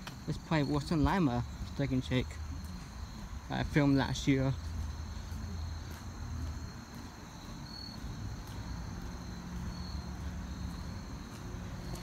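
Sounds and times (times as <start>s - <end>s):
crickets chirring: 0.0s - 12.0s
footsteps on concrete: 0.0s - 12.0s.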